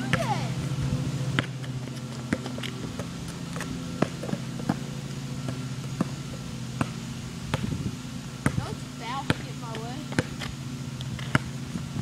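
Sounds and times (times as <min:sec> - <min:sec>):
basketball bouncing on asphalt: 0:00.0 - 0:00.6, 0:01.3 - 0:12.0
low mechanical hum: 0:00.0 - 0:12.0.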